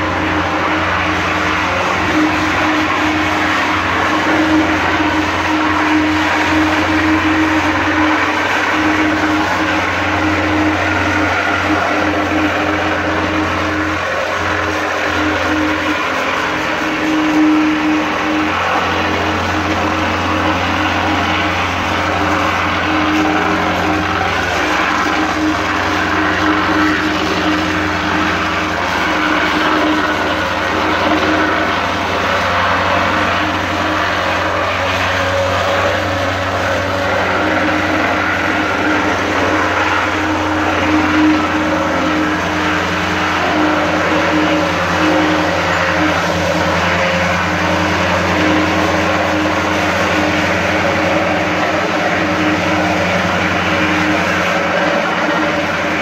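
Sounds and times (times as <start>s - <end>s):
plate compactor engine running: 0.0s - 56.0s.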